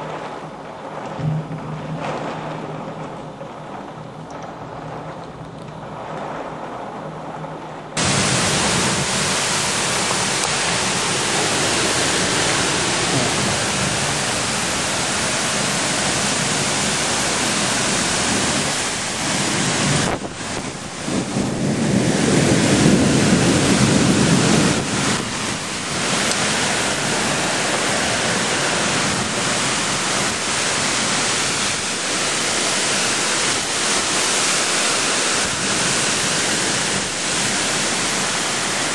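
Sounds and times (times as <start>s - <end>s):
heavy rain: 0.0s - 38.9s
wind buffeting microphone: 0.0s - 38.9s
wind gusting through trees: 0.0s - 38.9s.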